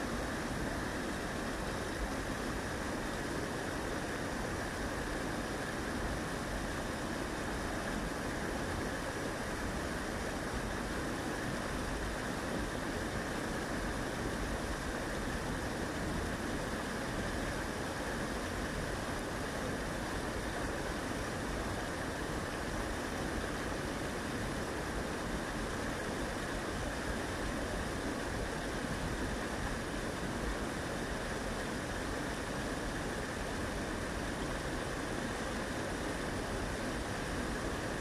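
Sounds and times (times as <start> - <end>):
stream water rushing over weir: 0.0 - 38.0.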